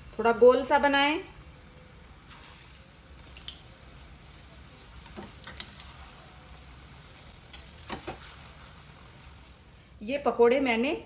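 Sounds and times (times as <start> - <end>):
pakoras sizzling in hot oil: 0.0 - 11.0.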